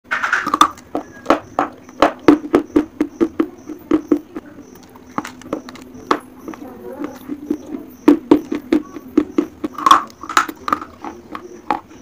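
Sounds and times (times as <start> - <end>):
chalk being chewed crunching: 0.4 - 12.0.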